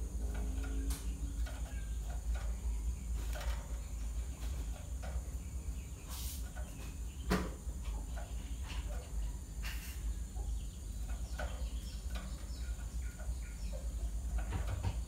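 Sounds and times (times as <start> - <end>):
sparrows chirping: 0.0 - 15.0
steady low hum: 0.0 - 15.0.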